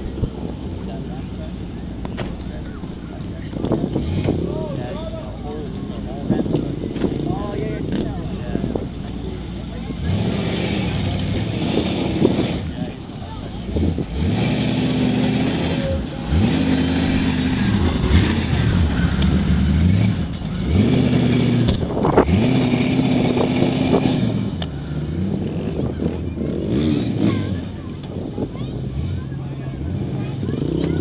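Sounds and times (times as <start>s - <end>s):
tires spinning in loose dirt: 0.0s - 31.0s
truck engine revving: 0.0s - 31.0s.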